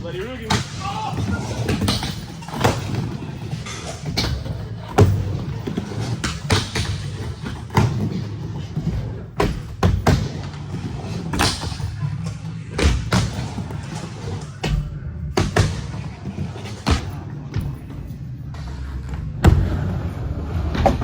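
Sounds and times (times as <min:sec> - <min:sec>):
skateboard wheels rolling rumble: 0:01.0 - 0:21.0.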